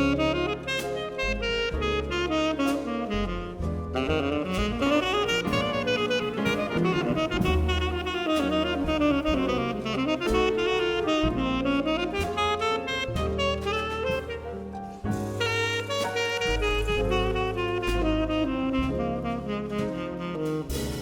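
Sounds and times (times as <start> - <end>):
saxophone melody: 0.0 - 14.7, 15.4 - 20.7
jazz quintet playing: 0.0 - 21.0.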